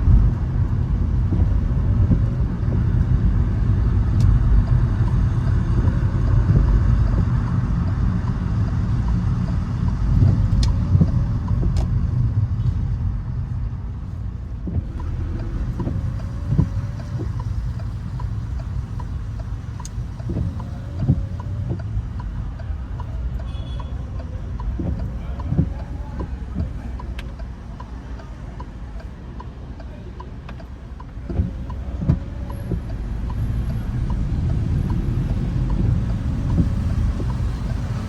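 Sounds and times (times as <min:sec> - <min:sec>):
car engine and tyres on wet road: 0:00.0 - 0:38.0
light regular ticking: 0:00.0 - 0:38.0.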